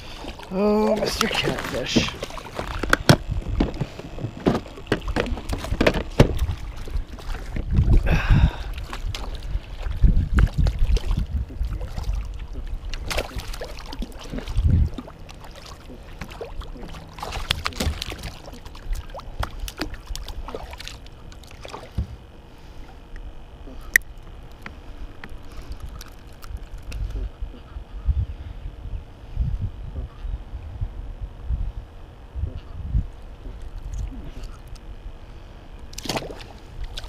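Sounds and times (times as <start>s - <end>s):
fish splashing and thrashing: 0.0s - 27.6s, 33.2s - 37.0s
low rumble: 0.0s - 37.0s.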